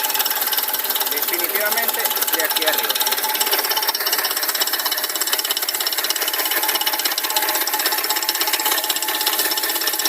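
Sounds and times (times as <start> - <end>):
car engine idling: 0.0 - 10.0
metallic valve ticking: 0.0 - 10.0.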